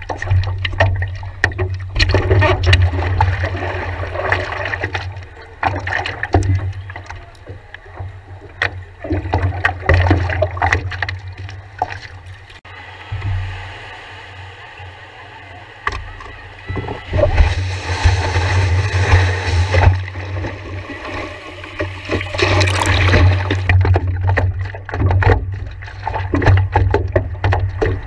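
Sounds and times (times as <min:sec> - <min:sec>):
water splashing around paddleboard: 0:00.0 - 0:12.6, 0:15.9 - 0:28.0
water lapping: 0:00.0 - 0:15.2, 0:16.1 - 0:28.0.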